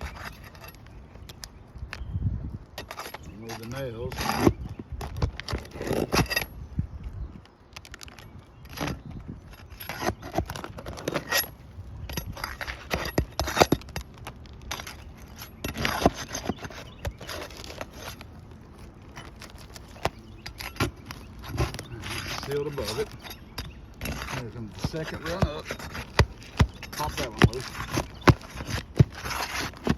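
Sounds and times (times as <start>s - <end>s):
bar scraping against shingles: 0.0s - 1.0s, 2.8s - 6.6s, 7.8s - 29.9s.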